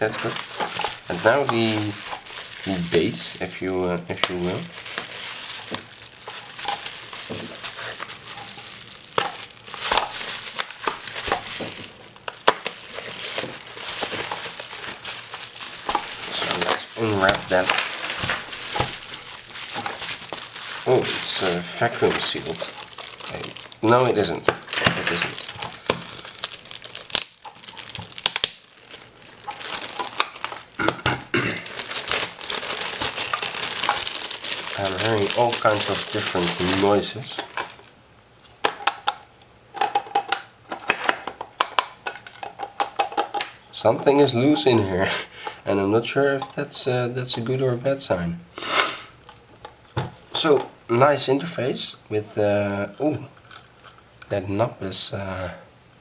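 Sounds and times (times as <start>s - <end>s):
plastic packaging crinkling: 0.0s - 54.4s.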